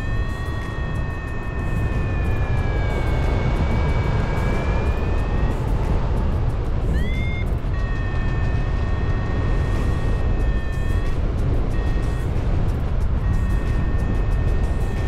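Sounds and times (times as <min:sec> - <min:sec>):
high steady tone: 0:00.0 - 0:15.0
tone rising in pitch: 0:00.0 - 0:15.0
wind buffeting microphone: 0:00.0 - 0:15.0.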